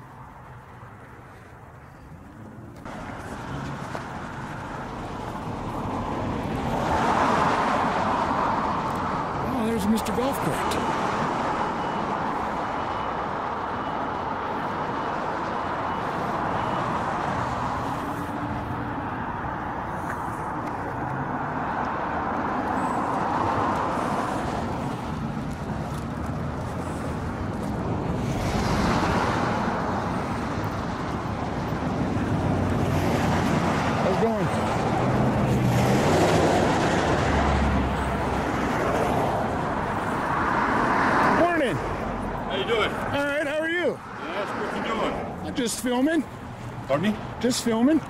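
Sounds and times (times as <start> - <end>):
cars driving past: 0.0 - 48.0.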